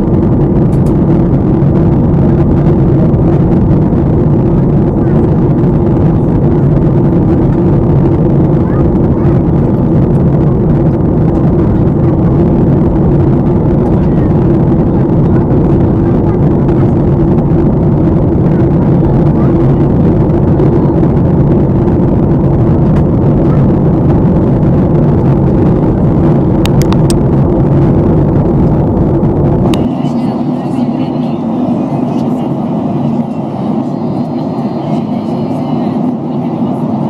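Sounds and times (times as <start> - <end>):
airliner cabin engine drone: 0.0 - 37.0
faint steady hum: 0.0 - 37.0.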